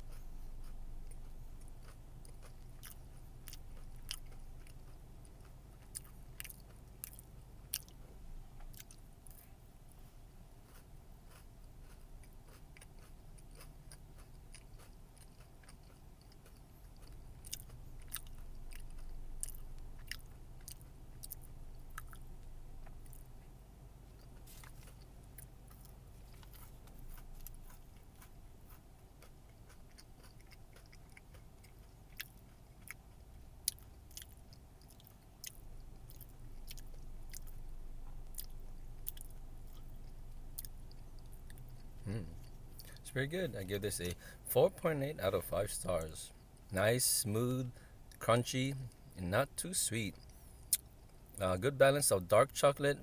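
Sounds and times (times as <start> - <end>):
crunchy chewing: 0.0 - 51.8
steady low hum: 0.0 - 53.0.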